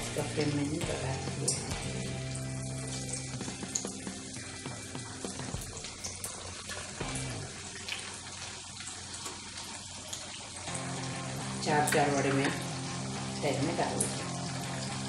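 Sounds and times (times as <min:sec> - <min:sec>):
deep-frying sizzle with crackles: 0:00.0 - 0:15.0.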